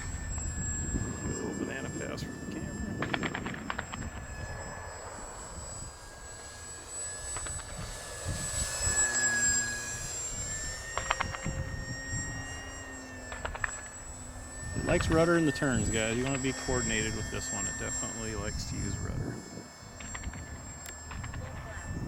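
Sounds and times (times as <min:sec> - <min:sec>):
model airplane motor whining: 0:00.0 - 0:22.0.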